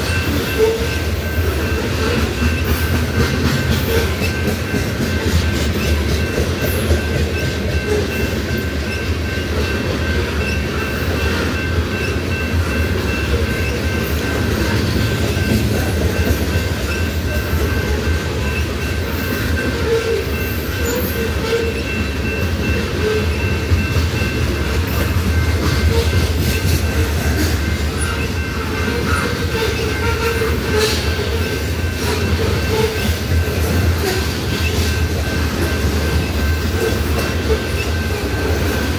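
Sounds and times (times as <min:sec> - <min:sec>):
clickety-clack of rail joints: 0:00.0 - 0:38.9
crossing warning bell ringing: 0:00.0 - 0:38.9
train wheels rumbling on rails: 0:00.0 - 0:38.9.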